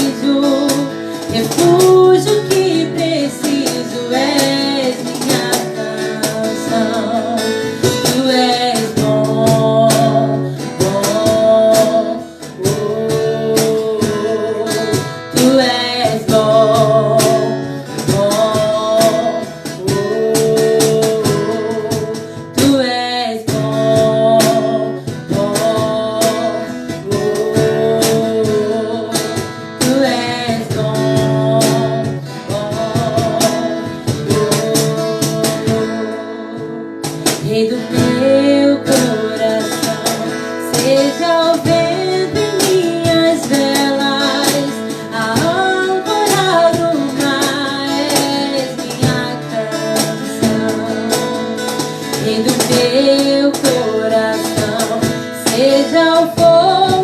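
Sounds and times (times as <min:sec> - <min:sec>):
acoustic guitar strumming: 0:00.0 - 0:57.0
woman singing: 0:00.0 - 0:57.0.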